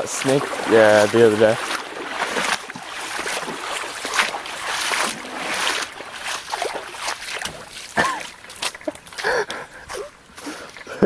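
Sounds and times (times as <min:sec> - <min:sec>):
creek water sloshing and splashing: 0:00.0 - 0:11.0.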